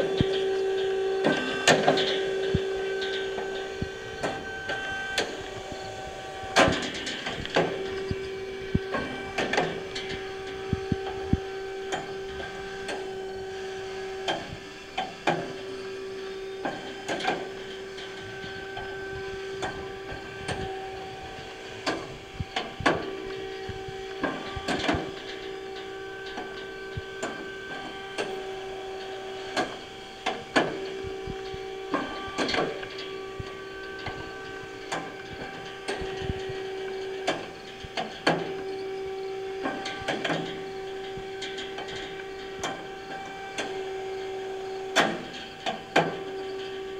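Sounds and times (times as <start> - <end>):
saw motor steady hum: 0.0 - 46.9.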